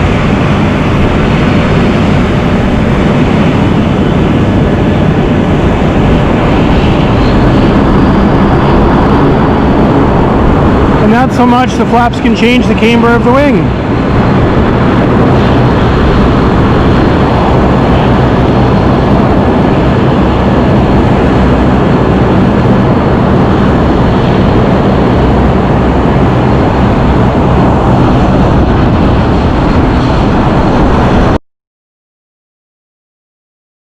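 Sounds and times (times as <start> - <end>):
jet airliner engine drone: 0.0 - 31.4.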